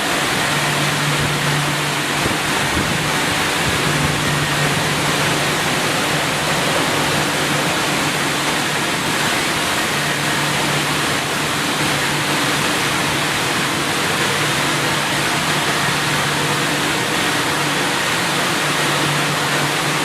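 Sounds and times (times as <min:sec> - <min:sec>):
low motor hum: 0:00.0 - 0:20.0
water spraying: 0:00.0 - 0:20.0.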